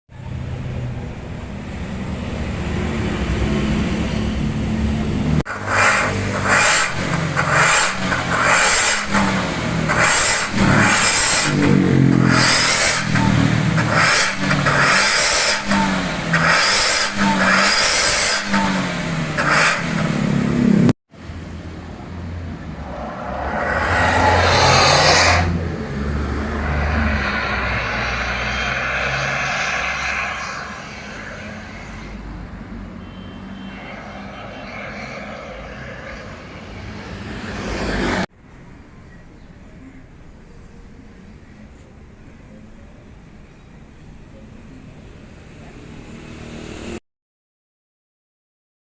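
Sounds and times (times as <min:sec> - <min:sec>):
car engine idling and revving: 0:00.1 - 0:47.0.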